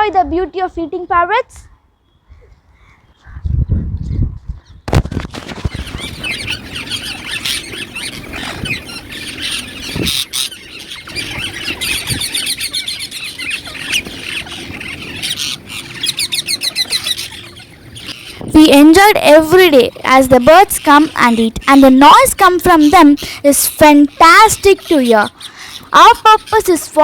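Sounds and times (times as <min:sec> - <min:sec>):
parakeets squawking and screeching: 0:05.0 - 0:27.0.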